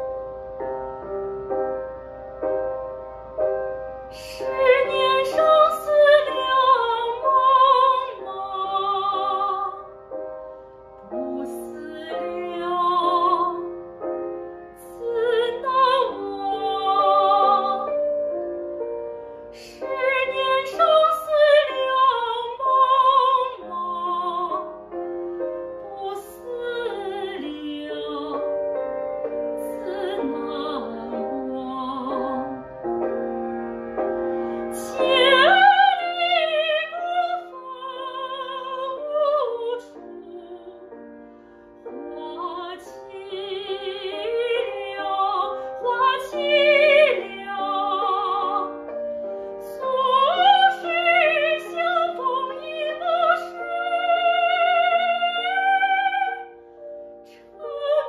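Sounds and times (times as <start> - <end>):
piano accompaniment: 0.0 - 58.0
woman singing classical song: 3.3 - 58.0.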